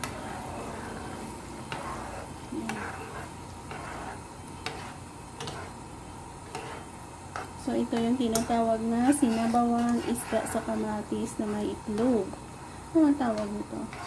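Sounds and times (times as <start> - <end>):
soup sizzling in a pan: 0.0 - 14.0.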